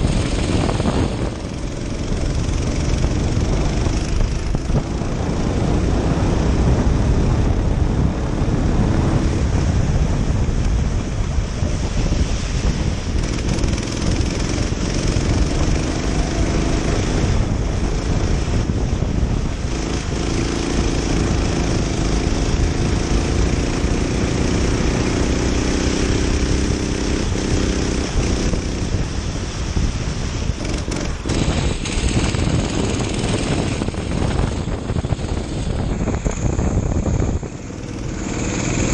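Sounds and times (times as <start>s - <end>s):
kart engine revving: 0.0s - 9.5s, 13.1s - 18.8s, 19.4s - 29.1s, 30.5s - 38.9s
wind noise on microphone: 0.0s - 38.9s.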